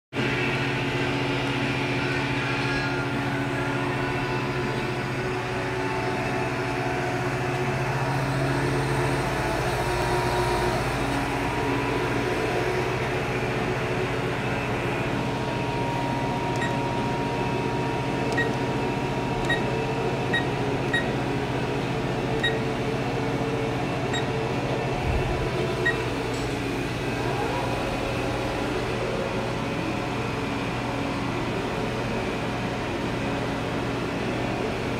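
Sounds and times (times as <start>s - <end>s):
machine humming with held tones: 0.2s - 34.9s.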